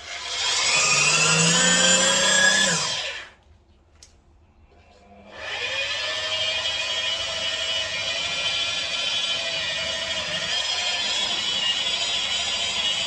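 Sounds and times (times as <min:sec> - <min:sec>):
electric tool motor whining: 0:00.0 - 0:03.3, 0:05.3 - 0:13.0.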